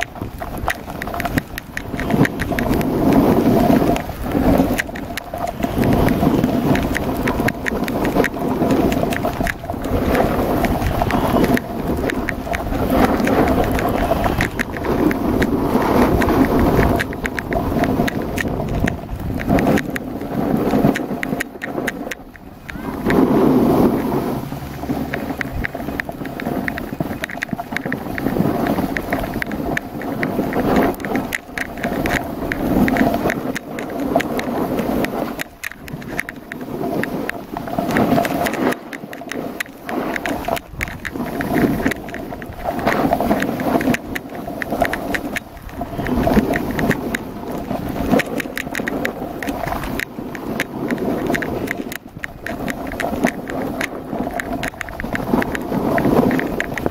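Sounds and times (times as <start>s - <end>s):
skis scraping over packed snow: 0.0s - 56.9s.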